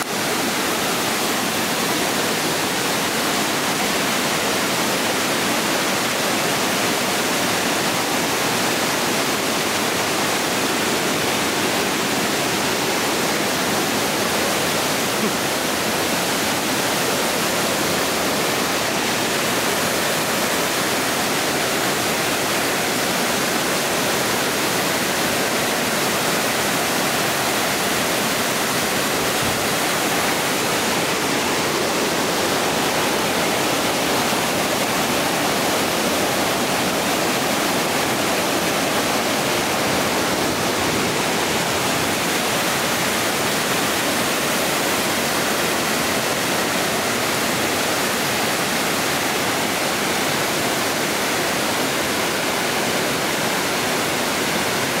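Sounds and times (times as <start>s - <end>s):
waterfall rushing into pool: 0.0s - 55.0s.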